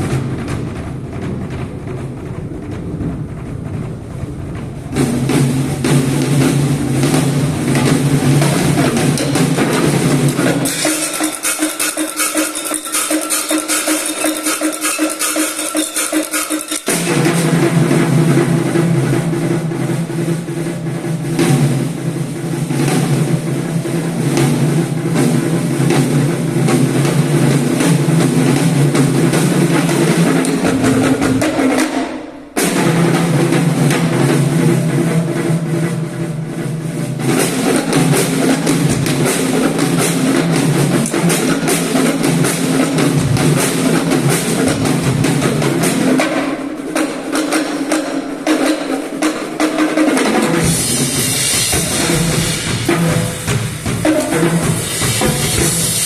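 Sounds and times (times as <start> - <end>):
fast drumming: 0.0 - 56.0.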